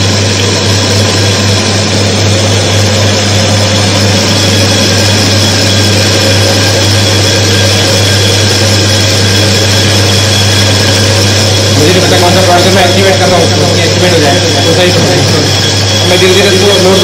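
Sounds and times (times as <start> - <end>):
electric motor hum with whine: 0.0 - 17.0.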